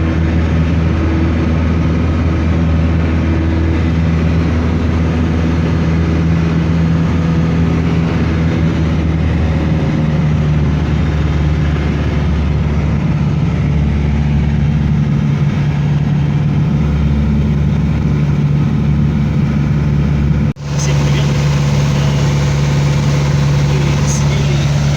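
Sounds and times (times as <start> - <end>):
airliner engine drone: 0.0 - 24.9
low hum: 0.0 - 24.9.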